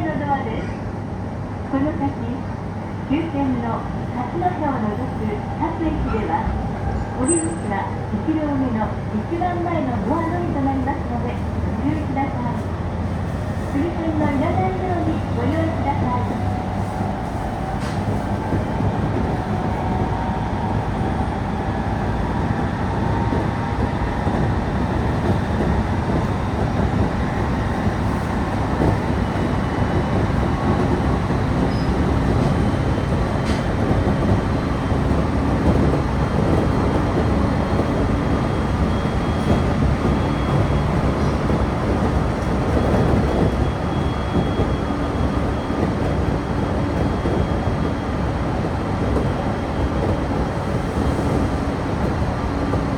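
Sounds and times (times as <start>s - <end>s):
train wheels rumbling on rails: 3.6s - 52.9s.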